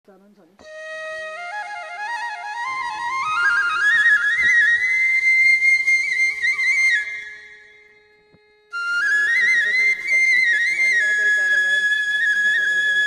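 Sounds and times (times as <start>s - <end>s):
solo flute melody: 0.6s - 13.0s.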